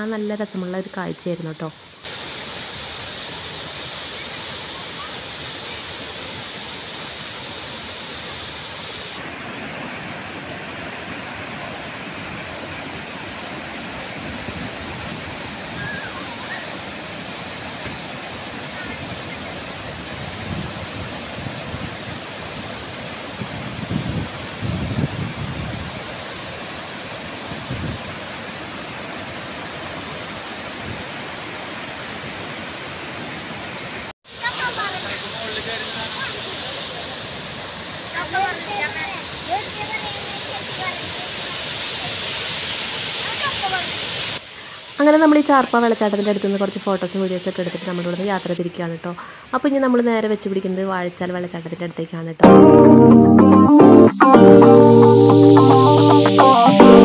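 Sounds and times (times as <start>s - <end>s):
waterfall and river rushing: 1.4s - 45.0s, 52.4s - 57.0s.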